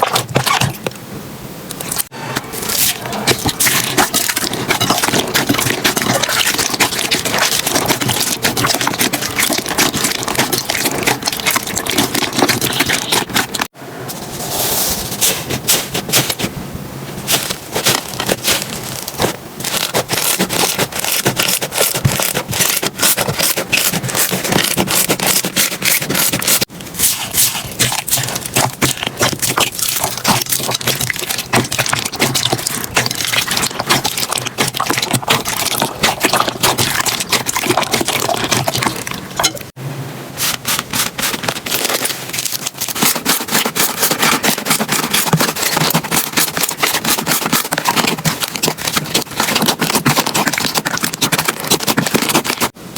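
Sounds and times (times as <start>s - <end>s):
slime crackling and popping: 1.9s - 13.7s, 17.2s - 39.6s, 40.5s - 52.7s.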